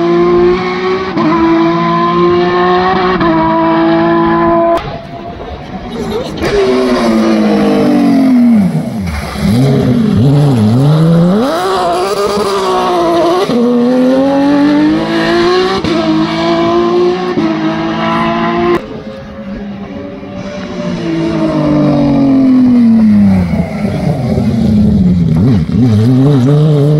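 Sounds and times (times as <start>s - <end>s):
rally car engine passing: 0.0s - 26.9s.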